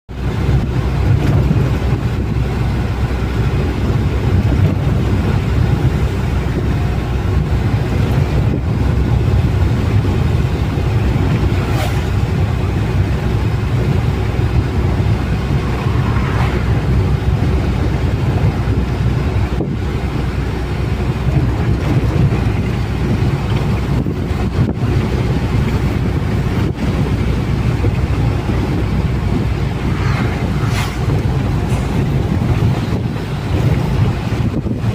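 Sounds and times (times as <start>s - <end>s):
truck engine and road rumble: 0.0s - 34.9s.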